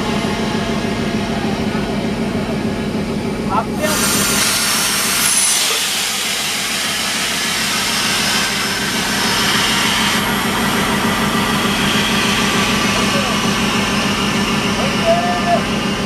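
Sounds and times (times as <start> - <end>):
locomotive diesel engine running: 0.0 - 16.0.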